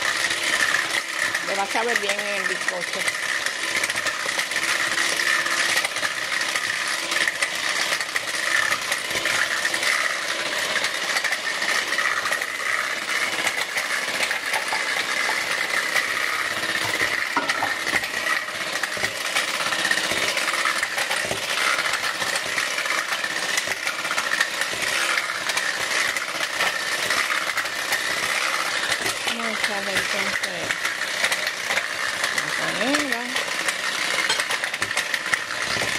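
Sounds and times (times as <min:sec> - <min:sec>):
electric hand mixer whining: 0:00.0 - 0:35.9.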